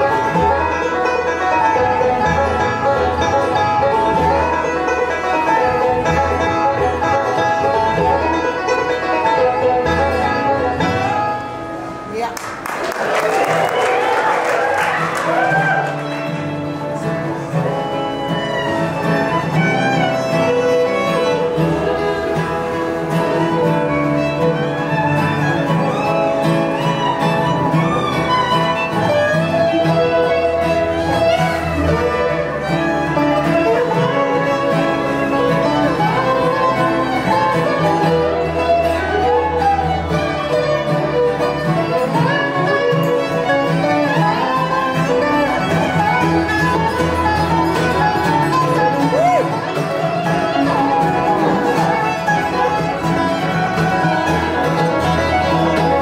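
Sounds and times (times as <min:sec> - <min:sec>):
fiddle melody: 0:00.0 - 0:12.3, 0:13.4 - 0:56.0
acoustic guitar: 0:00.0 - 0:56.0
banjo: 0:00.0 - 0:56.0
mandolin: 0:00.0 - 0:56.0.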